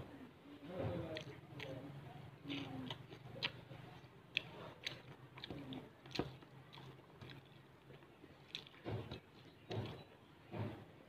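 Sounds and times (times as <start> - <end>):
chewing and crunching food: 0.8 - 11.0.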